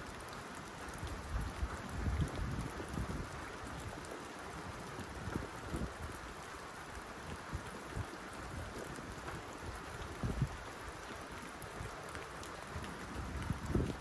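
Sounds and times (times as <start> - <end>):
rain on a tin roof: 0.0 - 14.0.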